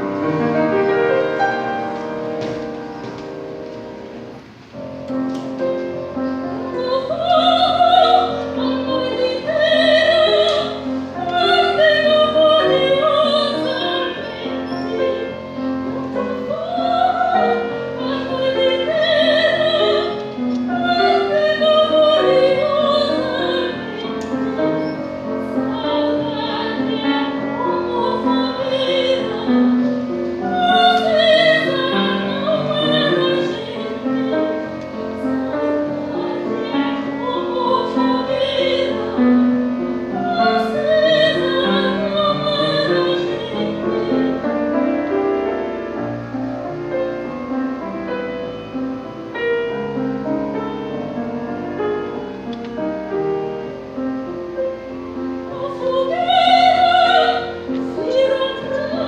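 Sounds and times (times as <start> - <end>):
piano accompaniment: 0.0 - 59.0
woman singing classical song: 0.0 - 59.0.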